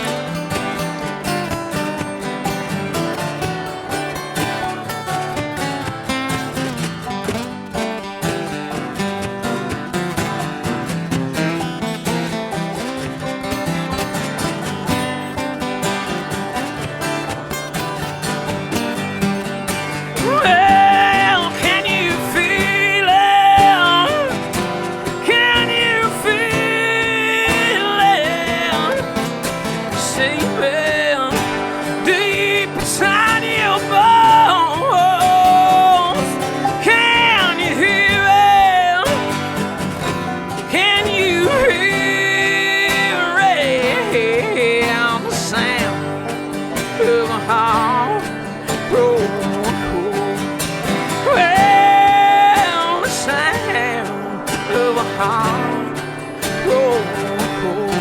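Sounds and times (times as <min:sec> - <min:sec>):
acoustic guitar: 0:00.0 - 0:58.0
bluegrass band playing: 0:00.0 - 0:58.0
sliding lead melody: 0:00.0 - 0:58.0.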